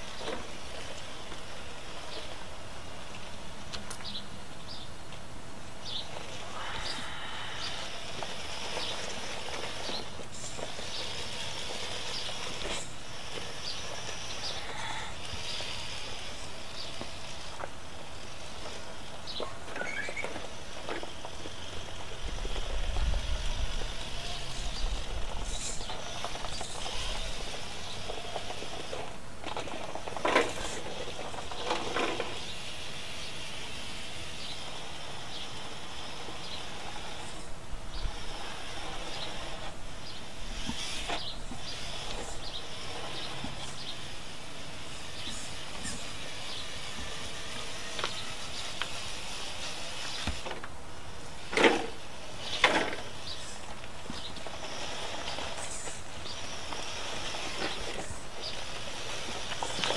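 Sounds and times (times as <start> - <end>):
rc car motor and gears whirring: 0.0 - 59.9.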